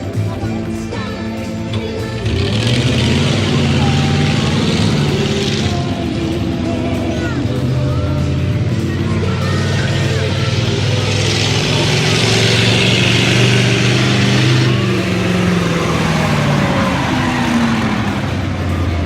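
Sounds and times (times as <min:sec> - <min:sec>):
broad rushing noise: 0:00.0 - 0:19.0
truck engine running: 0:00.0 - 0:19.0.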